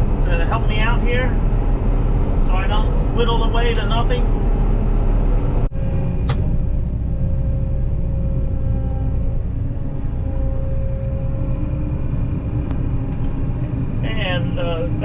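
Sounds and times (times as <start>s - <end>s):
combine harvester engine drone: 0.0s - 15.0s
steady machine whine: 0.0s - 15.0s.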